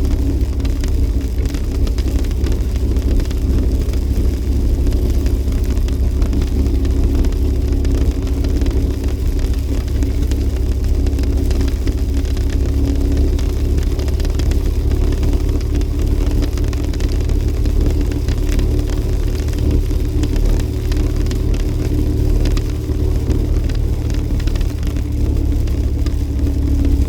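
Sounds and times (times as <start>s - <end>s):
engine and road noise rumble: 0.0s - 27.0s.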